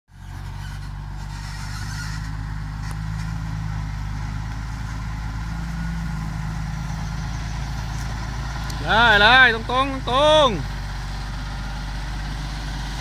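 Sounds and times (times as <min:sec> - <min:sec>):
truck diesel engine running: 0:00.1 - 0:13.0.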